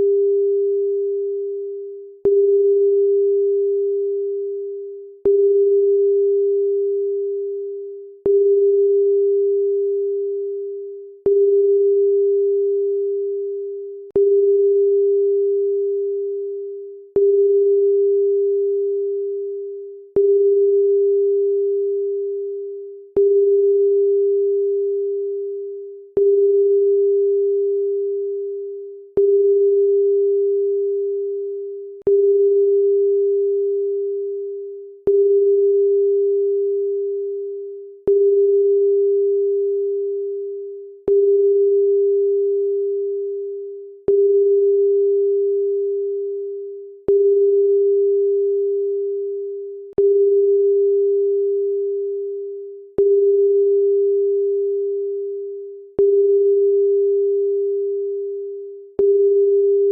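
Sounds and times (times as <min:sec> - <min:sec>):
electronic pure tone: 0:00.0 - 0:59.9.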